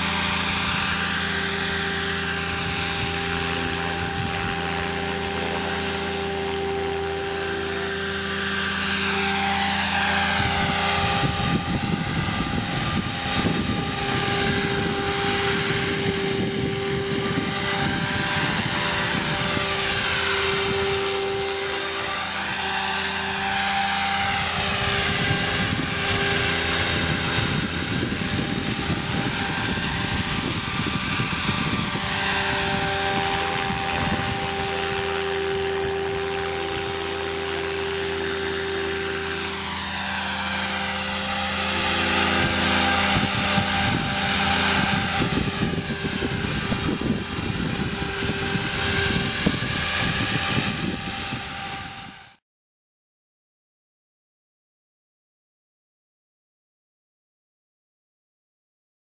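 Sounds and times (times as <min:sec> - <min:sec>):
rotor whoosh: 0:00.0 - 0:52.2
model helicopter motor whine: 0:00.0 - 0:52.4.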